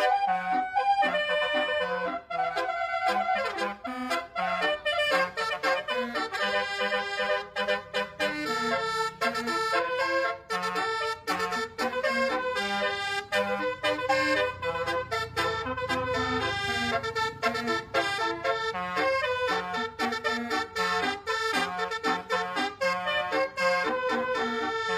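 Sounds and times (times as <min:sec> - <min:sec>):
bus horn playing melody: 0:00.0 - 0:24.9.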